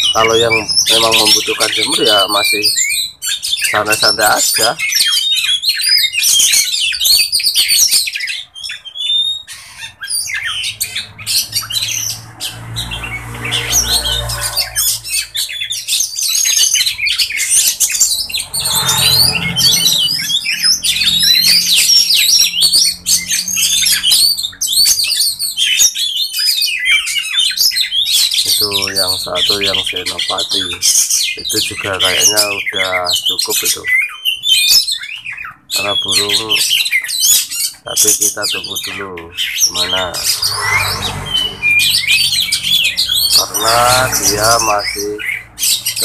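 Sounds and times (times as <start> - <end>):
birds singing and chattering: 0.0 - 46.0.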